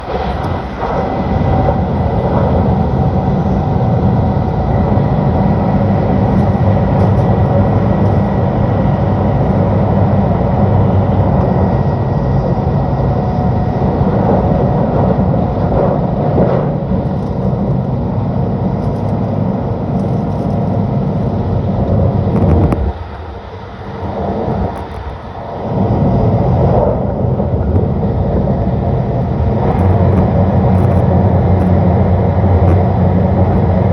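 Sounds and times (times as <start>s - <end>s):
faint train whine: 0.0s - 33.9s
train rumble and rush: 0.0s - 33.9s.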